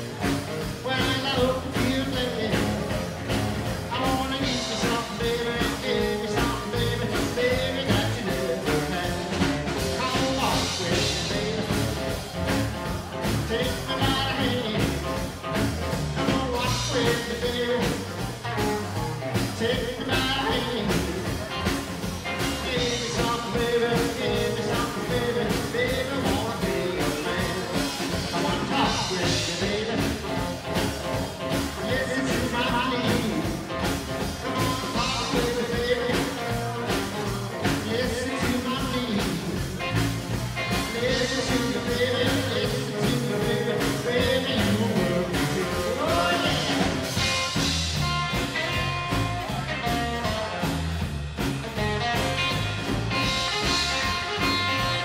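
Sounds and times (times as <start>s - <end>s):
drums: 0.0s - 55.0s
electric guitar: 0.0s - 55.0s
live rockabilly band playing: 0.0s - 55.0s.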